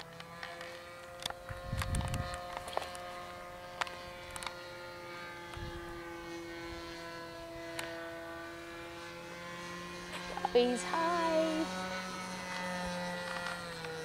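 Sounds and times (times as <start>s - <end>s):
model airplane motor drone: 0.0s - 14.0s.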